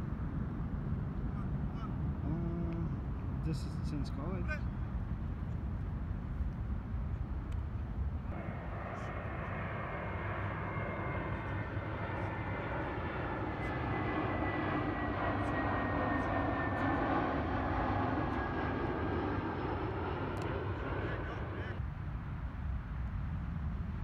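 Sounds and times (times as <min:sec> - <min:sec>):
aircraft passing with whine: 0:00.0 - 0:24.0.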